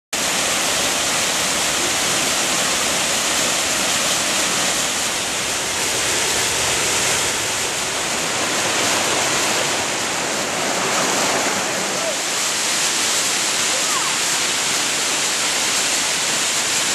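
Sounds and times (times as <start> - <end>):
water rushing over small waterfall: 0.2 - 16.9.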